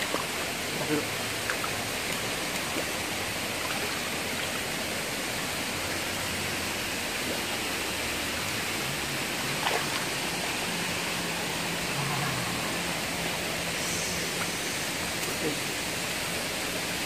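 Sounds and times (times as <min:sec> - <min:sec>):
rocky stream rushing: 0:00.0 - 0:17.0.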